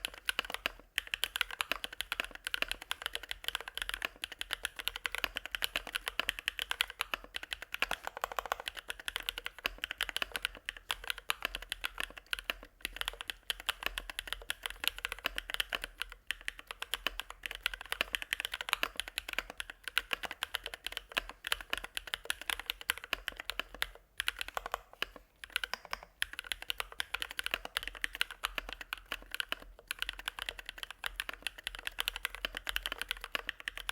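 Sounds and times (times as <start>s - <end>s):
mechanical keyboard typing clacks: 0.0s - 33.9s.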